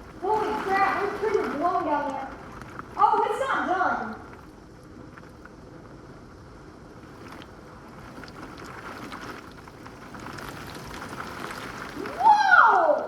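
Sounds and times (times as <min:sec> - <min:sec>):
wind-driven rain: 0:00.0 - 0:13.0.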